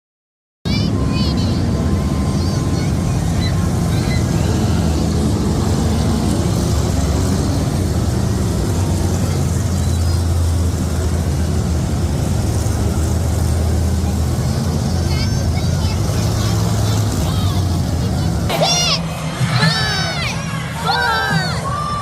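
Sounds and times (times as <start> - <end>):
monster truck engine running: 0.7 - 22.0.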